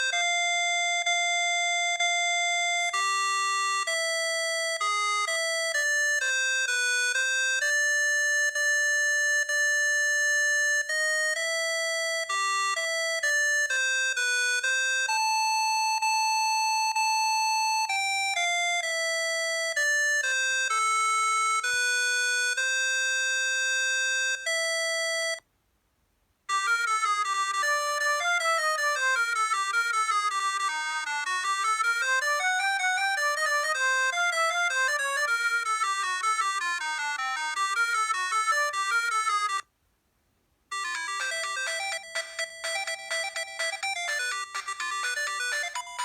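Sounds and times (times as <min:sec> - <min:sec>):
electronic phone ringtone melody: 0:00.0 - 0:25.4, 0:26.5 - 0:39.7, 0:40.7 - 0:46.0.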